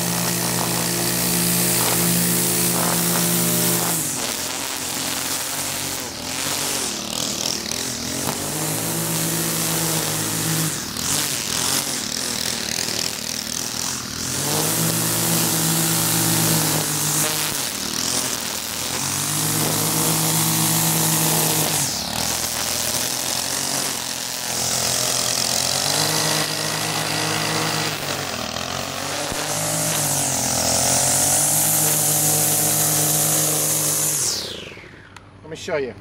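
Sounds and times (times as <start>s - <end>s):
spinning trimmer line hiss: 0.0s - 35.3s
string trimmer engine revving: 0.0s - 36.0s.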